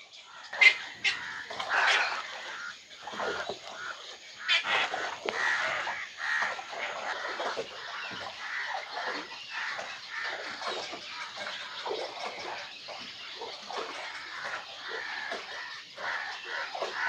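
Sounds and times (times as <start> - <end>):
waterbirds calling in chorus: 0.0 - 17.0.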